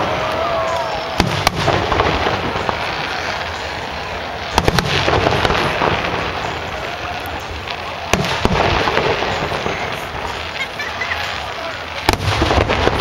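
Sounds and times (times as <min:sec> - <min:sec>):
crackle of falling sparks: 0:00.0 - 0:13.0
firework shells bursting: 0:00.0 - 0:13.0.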